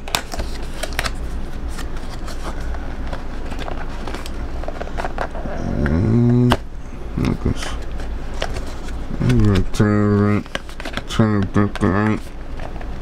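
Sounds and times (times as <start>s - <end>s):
steady background whir: 0.0s - 13.0s.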